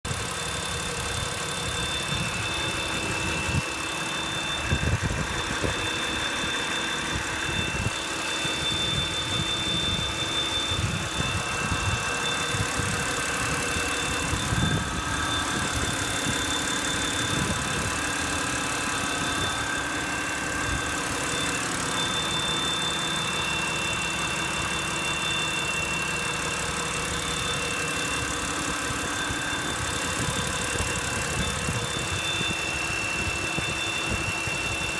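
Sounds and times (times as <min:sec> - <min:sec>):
car engine idling: 0:00.0 - 0:34.9
high multi-tone whistle: 0:00.1 - 0:34.9.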